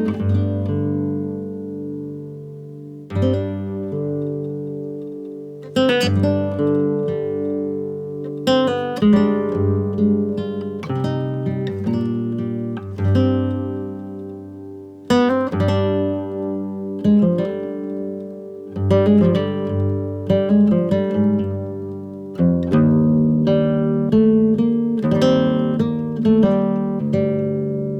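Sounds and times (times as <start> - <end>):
acoustic guitar playing: 0.0 - 27.9.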